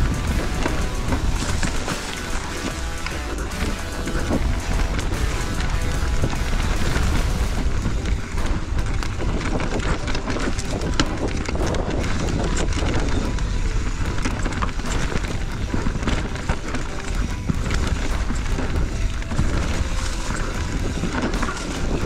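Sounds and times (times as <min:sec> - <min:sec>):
bike chain and frame rattling: 0:00.0 - 0:22.0
music: 0:00.0 - 0:22.0
tyres on dirt and rock: 0:00.0 - 0:22.0
wind buffeting microphone: 0:00.0 - 0:22.0.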